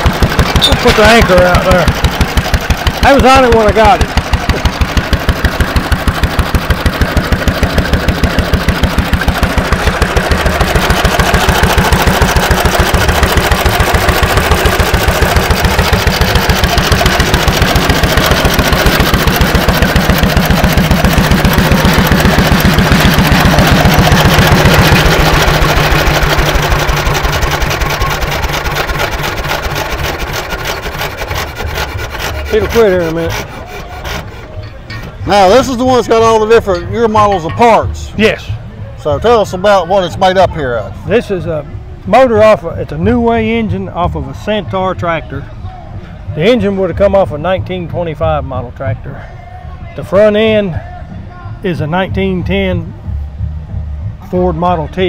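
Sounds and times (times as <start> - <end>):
tractor engine running: 0.0 - 45.1.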